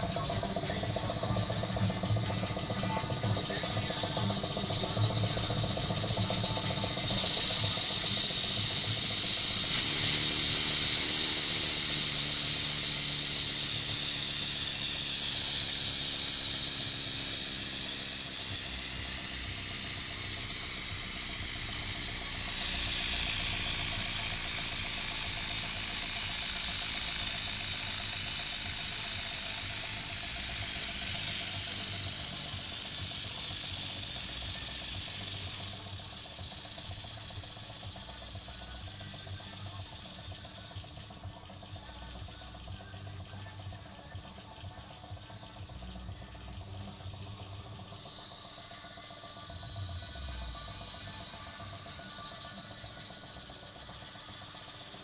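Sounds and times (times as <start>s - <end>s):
air hissing through engine: 0.0s - 55.0s
model engine mechanical running: 0.0s - 55.0s.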